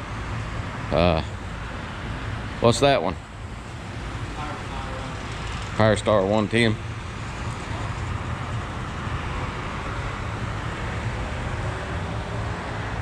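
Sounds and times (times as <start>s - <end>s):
background traffic rumble: 0.0s - 13.0s.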